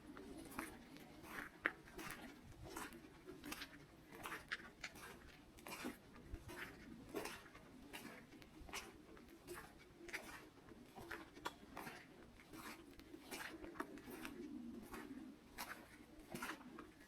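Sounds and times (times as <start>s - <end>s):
faint footsteps on forest path: 0.0s - 17.0s.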